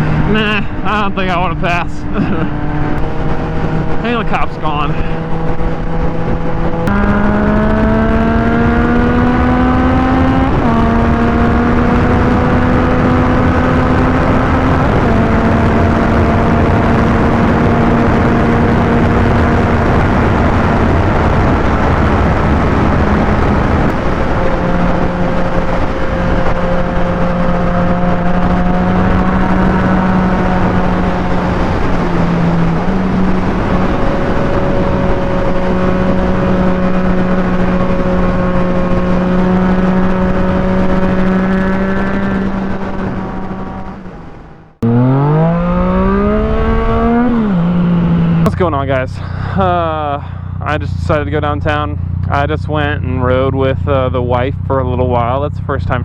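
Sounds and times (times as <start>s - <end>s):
low rush of wind: 0.0s - 56.0s
motorcycle engine accelerating: 0.0s - 56.0s.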